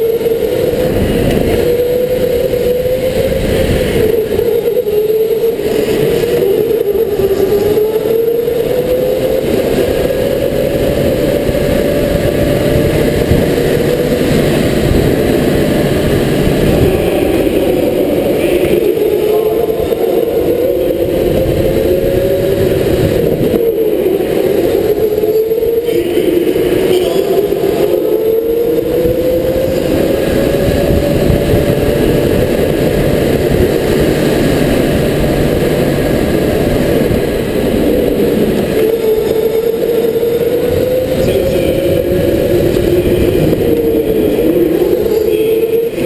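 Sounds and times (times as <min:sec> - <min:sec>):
electric kart motor whine: 0:00.0 - 0:46.0
rough rushing noise: 0:00.0 - 0:46.0.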